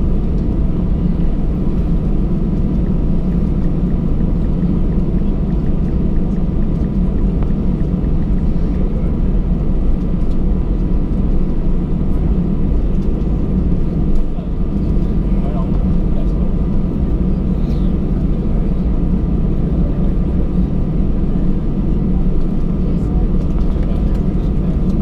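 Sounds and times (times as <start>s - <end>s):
jet engines idling rumble: 0.0s - 25.0s.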